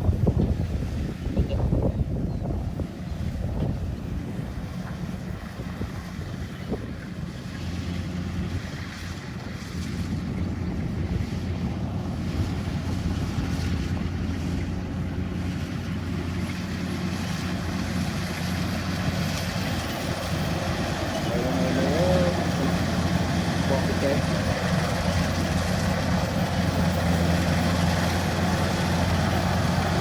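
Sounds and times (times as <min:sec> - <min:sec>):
harvester engine humming: 0:00.0 - 0:30.0.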